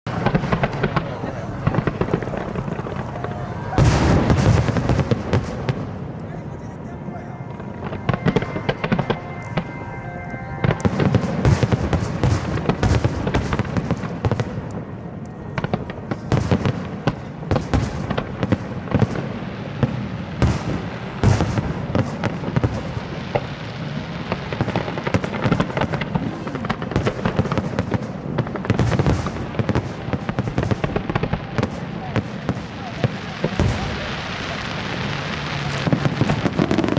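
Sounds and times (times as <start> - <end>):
fireworks bangs and crackling: 0.1 - 36.9.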